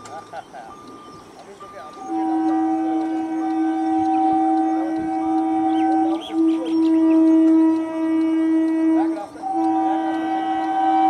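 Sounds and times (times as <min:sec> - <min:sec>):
train air horn blasts: 0:01.9 - 0:11.0.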